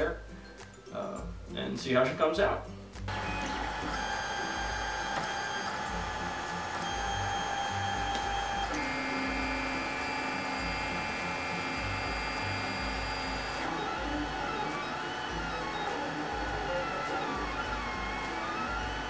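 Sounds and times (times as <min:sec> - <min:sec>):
printer stepper motors whining: 0:03.1 - 0:19.0.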